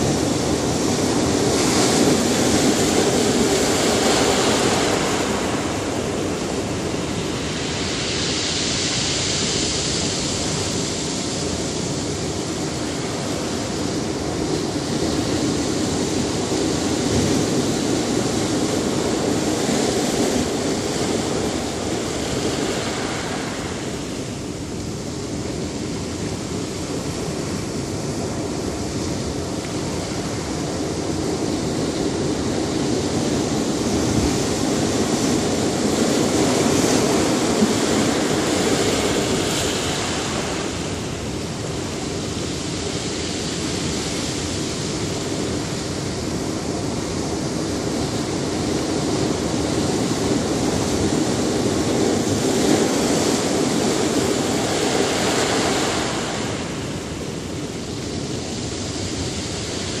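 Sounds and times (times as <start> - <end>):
surf breaking on rocky shore: 0.0 - 60.0.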